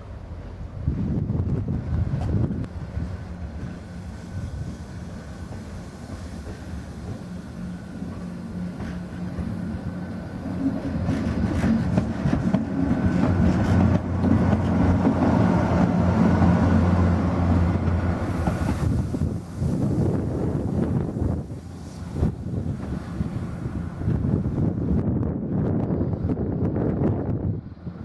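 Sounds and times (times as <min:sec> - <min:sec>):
wheels rumbling on rails: 0:00.0 - 0:28.0.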